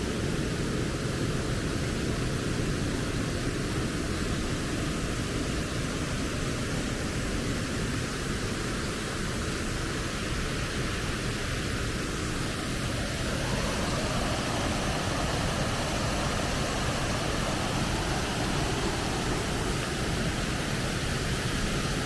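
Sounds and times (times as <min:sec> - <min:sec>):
flowing spring water: 0:00.0 - 0:22.0
rain: 0:00.0 - 0:22.0.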